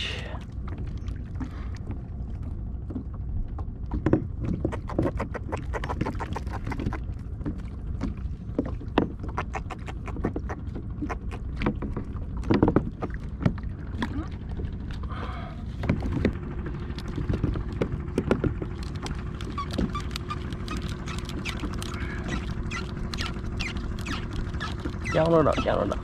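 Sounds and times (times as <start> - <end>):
low rumble of wind and water: 0.0 - 26.0.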